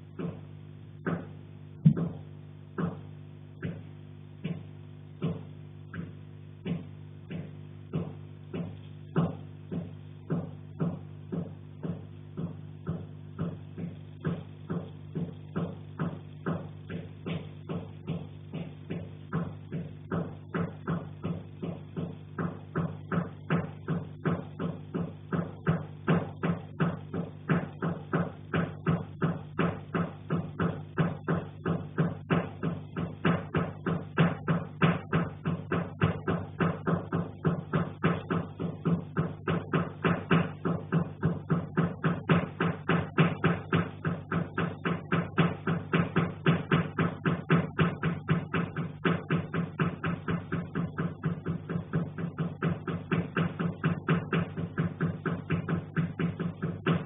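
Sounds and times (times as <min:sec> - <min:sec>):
dull thumping through ceiling: 0:00.0 - 0:57.0
steady low hum: 0:00.0 - 0:57.0.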